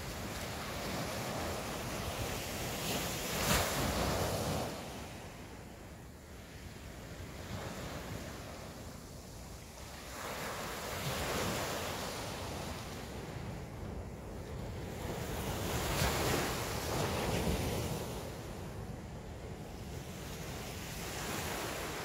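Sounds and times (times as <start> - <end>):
sea waves washing in: 0.0 - 22.0
wind rumbling on microphone: 0.0 - 22.0.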